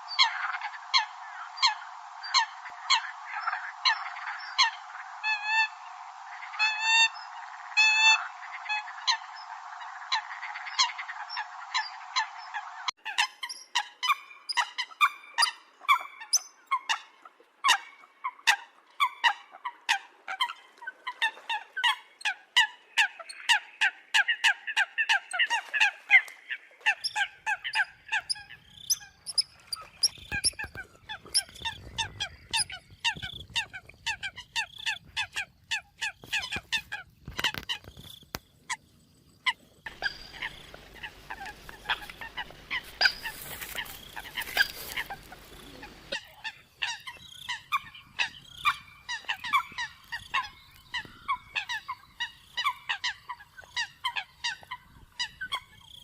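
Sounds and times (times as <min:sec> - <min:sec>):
coots calling: 0:07.8 - 0:56.0.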